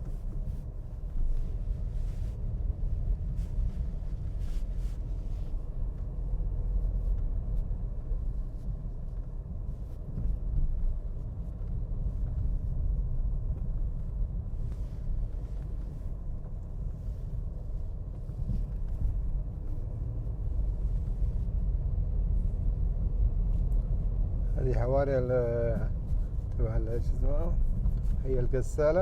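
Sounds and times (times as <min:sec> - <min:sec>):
moving car road and engine noise: 0:00.0 - 0:29.0.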